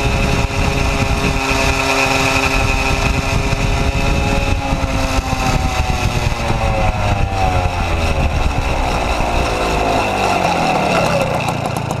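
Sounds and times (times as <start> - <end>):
moped two-stroke engine running: 0.0 - 12.0.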